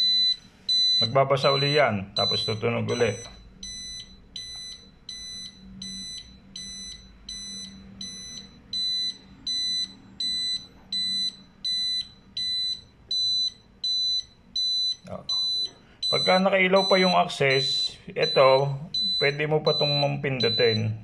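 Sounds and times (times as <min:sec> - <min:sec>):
fire alarm panel buzzer beeping: 0:00.0 - 0:21.0.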